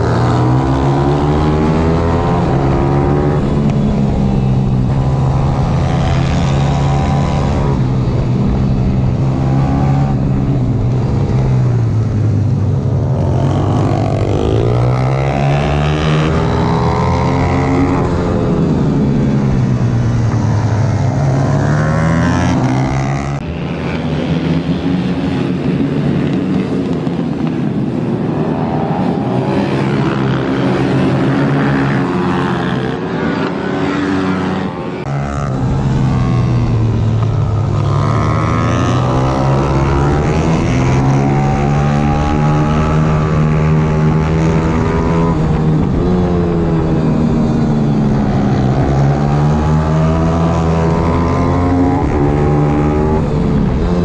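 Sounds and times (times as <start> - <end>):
pit bike engines revving: 0.0 - 54.0.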